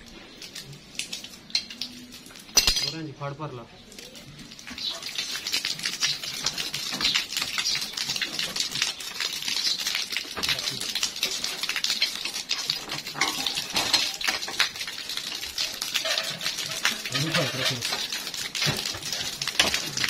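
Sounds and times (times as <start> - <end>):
water pouring and spattering: 0.0 - 20.0.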